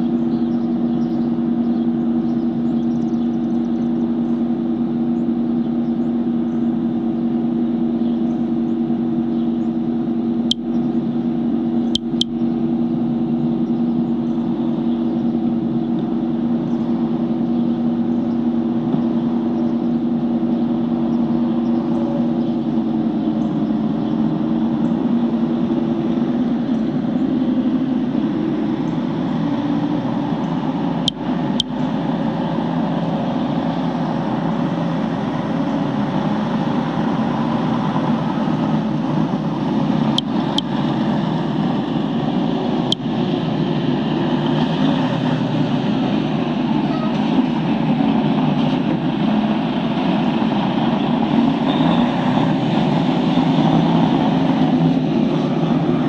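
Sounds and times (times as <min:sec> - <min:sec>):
machine hum with low tones: 0:00.0 - 0:56.0.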